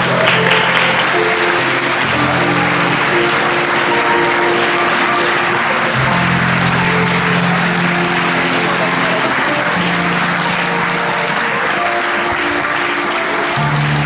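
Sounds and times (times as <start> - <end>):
audience applauding: 0.0 - 14.0
music of slow held notes: 0.0 - 14.0.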